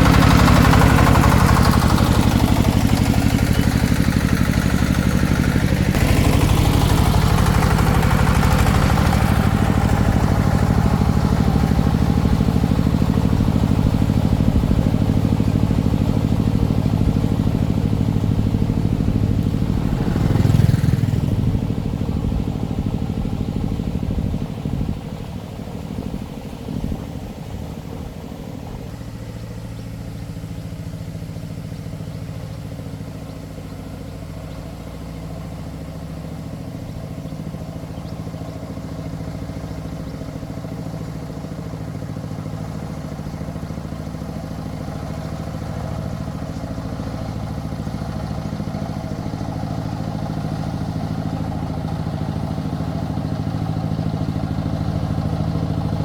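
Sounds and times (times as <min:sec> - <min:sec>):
single-cylinder diesel engine idling: 0:00.0 - 0:56.0.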